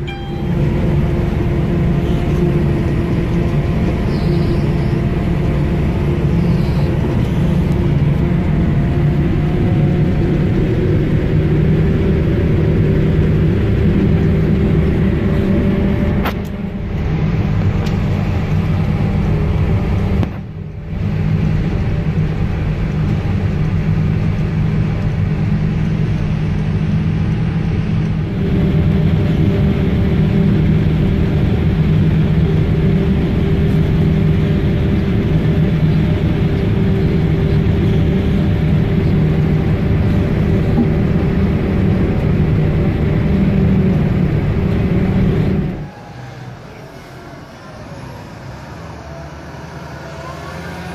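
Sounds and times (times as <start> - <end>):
farm machinery engine drone: 0.0 - 50.9.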